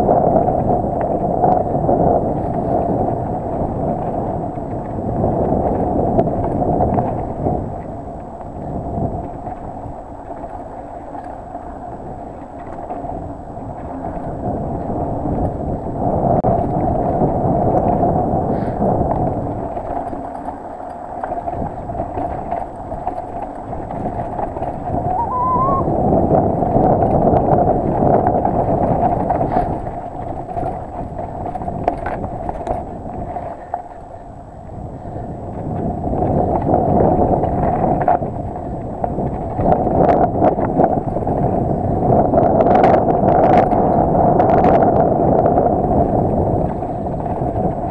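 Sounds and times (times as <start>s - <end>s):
bike tyre rumble: 0.0s - 47.9s
wind buffeting microphone: 0.0s - 47.9s.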